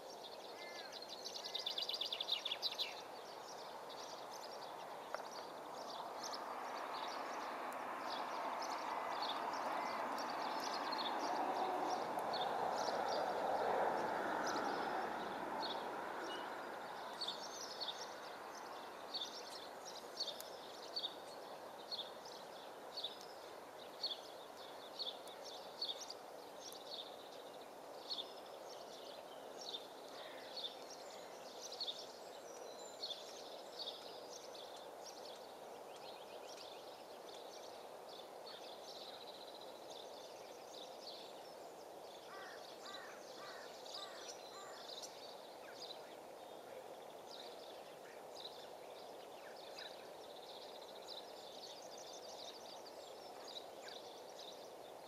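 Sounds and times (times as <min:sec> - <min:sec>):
outdoor background noise: 0:00.0 - 0:55.0
small birds chirping: 0:00.0 - 0:55.0.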